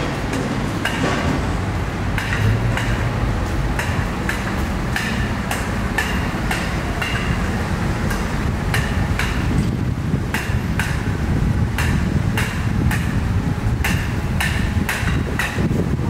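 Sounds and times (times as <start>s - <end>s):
machinery rumble: 0.0s - 16.0s
street traffic rumble: 0.0s - 16.0s.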